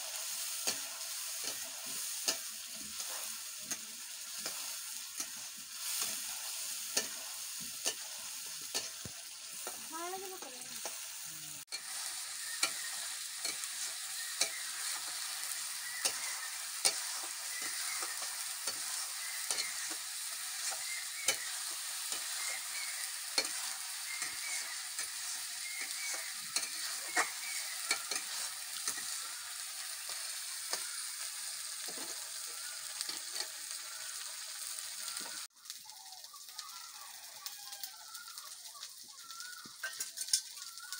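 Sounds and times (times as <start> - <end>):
metal spatula scraping a pan: 0.0 - 34.3, 39.8 - 40.6
spices sizzling in a pan: 0.0 - 40.9.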